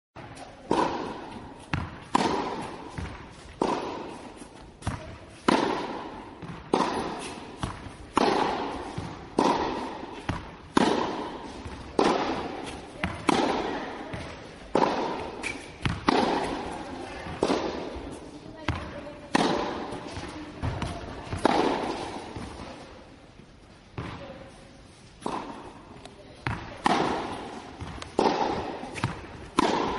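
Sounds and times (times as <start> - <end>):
tennis balls hit with rackets: 0.2 - 29.9.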